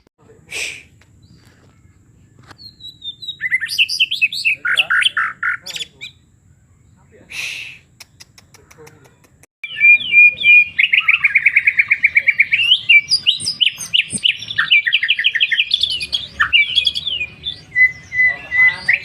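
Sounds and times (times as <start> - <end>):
songbird singing varied song: 0.4 - 19.0.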